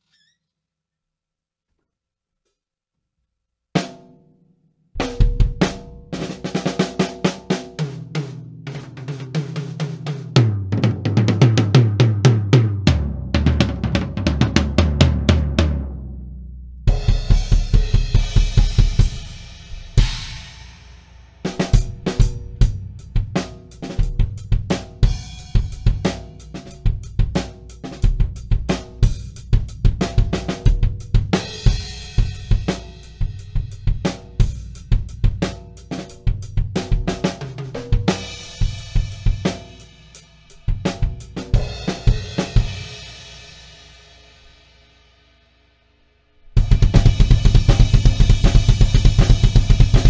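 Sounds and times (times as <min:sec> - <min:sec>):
drum kit playing: 0:05.0 - 0:16.2, 0:16.8 - 0:44.6, 0:46.4 - 0:50.0.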